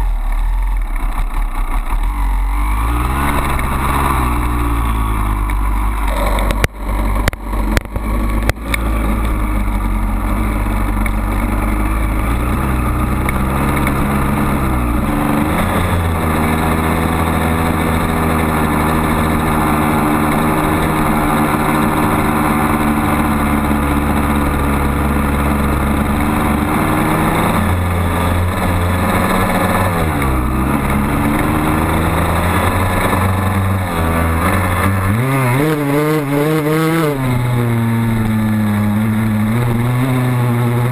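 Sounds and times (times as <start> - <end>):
dirt bike engine: 0.0 - 40.9.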